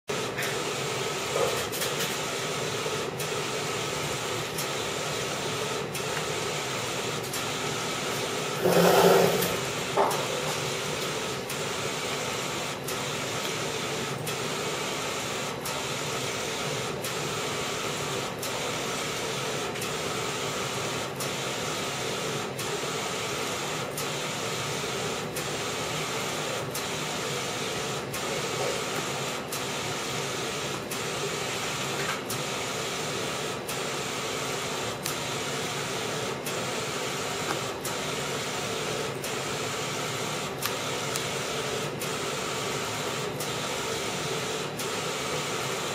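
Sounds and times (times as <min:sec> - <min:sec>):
printer carriage whirring: 0:00.1 - 0:45.9.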